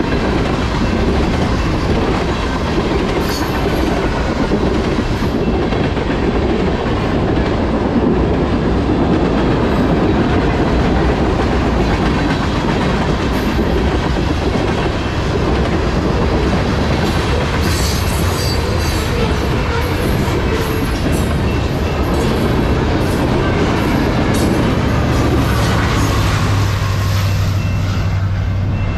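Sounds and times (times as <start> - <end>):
diesel locomotive engine drone: 0.0 - 28.9
rumble of train wheels on rail: 0.0 - 28.9.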